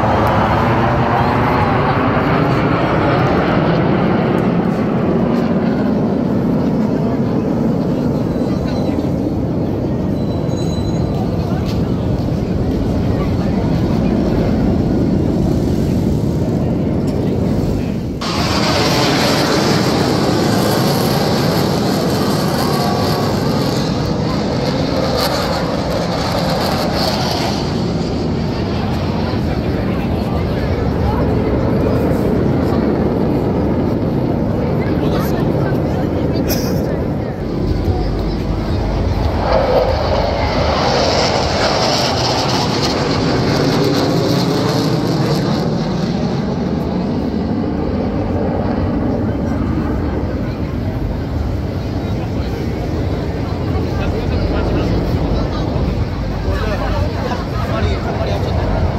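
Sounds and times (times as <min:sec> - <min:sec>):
jets flying overhead: 0:00.0 - 0:58.9.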